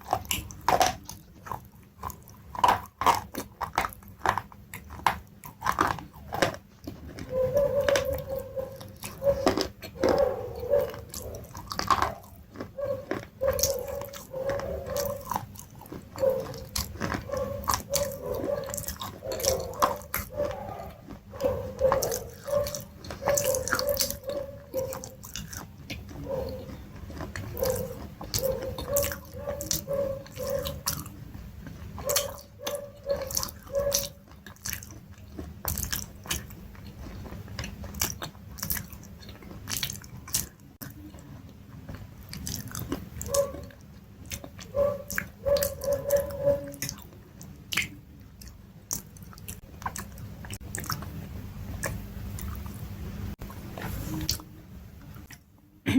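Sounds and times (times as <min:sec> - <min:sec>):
person chewing crunchy food: 0:00.0 - 0:55.4.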